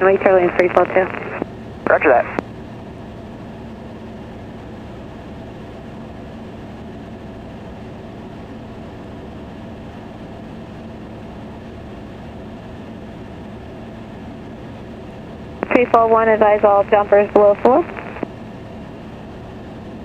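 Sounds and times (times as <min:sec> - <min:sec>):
aircraft engine and propeller drone: 0:00.0 - 0:20.0.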